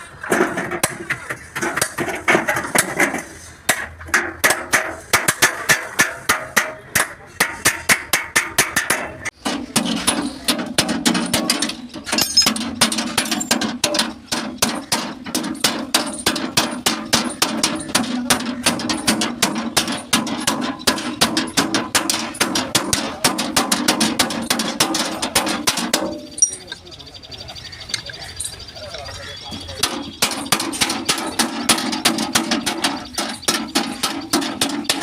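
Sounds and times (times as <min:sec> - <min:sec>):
hammer striking steel panel: 0:01.7 - 0:26.6, 0:29.8 - 0:35.0.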